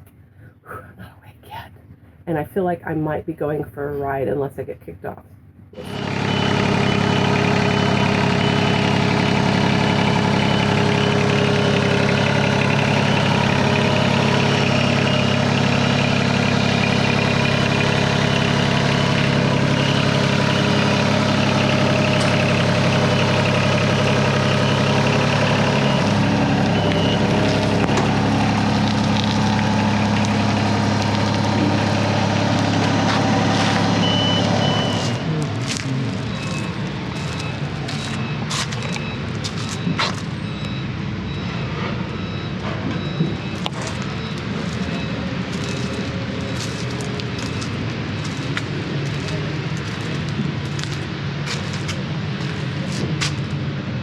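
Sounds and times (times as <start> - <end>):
reversing beeper: 5.8 - 51.0
machine engine running: 5.8 - 54.0.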